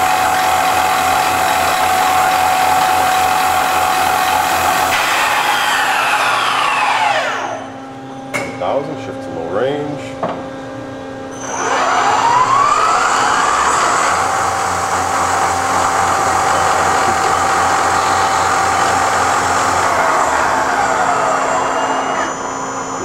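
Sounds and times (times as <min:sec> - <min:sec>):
machine spindle whine: 0:00.0 - 0:08.3, 0:11.2 - 0:23.0.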